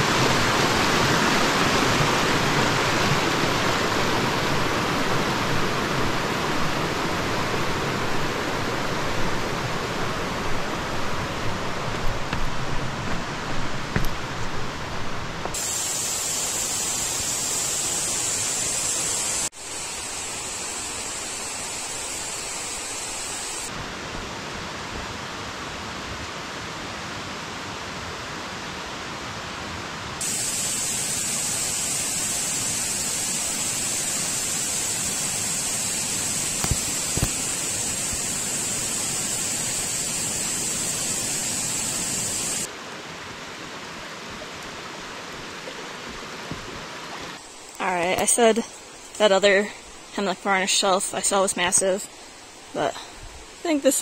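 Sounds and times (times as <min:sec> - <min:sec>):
mountain stream flowing: 0:00.0 - 0:54.0.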